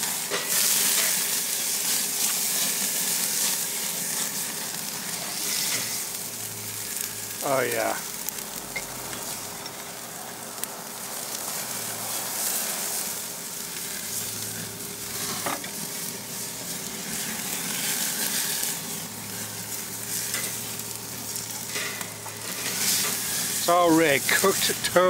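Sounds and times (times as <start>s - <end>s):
meat sizzling on grill: 0.0s - 25.0s.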